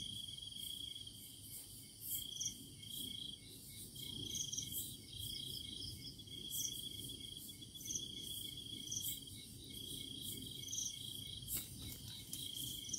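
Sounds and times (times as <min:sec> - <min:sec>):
crickets trilling: 0:00.0 - 0:12.9.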